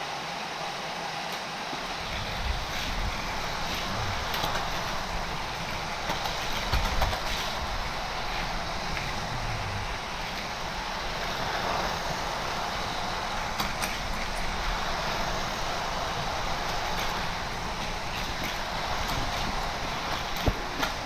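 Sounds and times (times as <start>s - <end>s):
toy cars rolling on plastic track: 1.3s - 21.0s.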